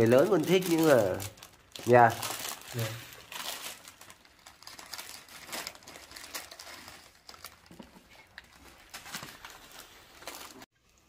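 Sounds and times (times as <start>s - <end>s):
plastic packets crinkling: 0.0s - 10.7s.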